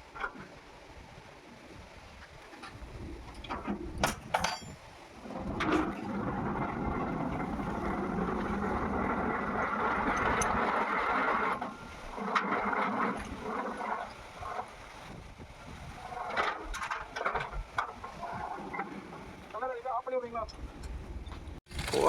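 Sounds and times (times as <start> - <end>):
water rushing from pipe: 0.0 - 19.5.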